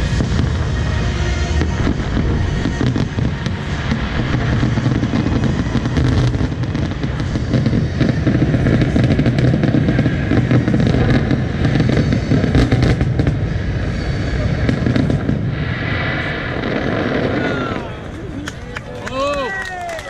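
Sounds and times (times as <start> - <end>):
low rumble: 0.0 - 19.0
fireworks crackling and popping: 0.0 - 20.0.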